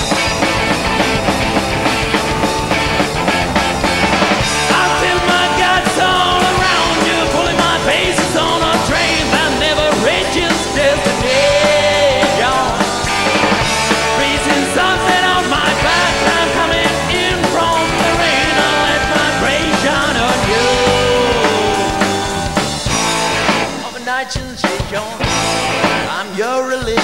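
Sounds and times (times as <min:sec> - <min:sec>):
bending guitar lines: 0:00.0 - 0:24.2
rock band playing live: 0:00.0 - 0:27.0.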